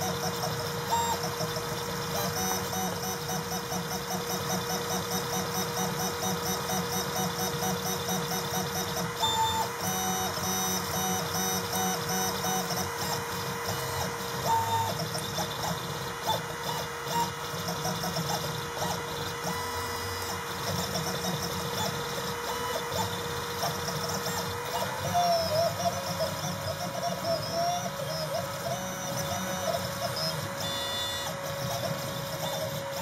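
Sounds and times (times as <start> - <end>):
stepper motors whining: 0.0 - 33.0.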